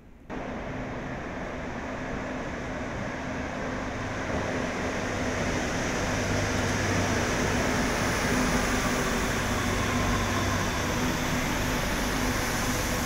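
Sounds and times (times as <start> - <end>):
train wheels rumbling on rail: 0.3 - 13.0.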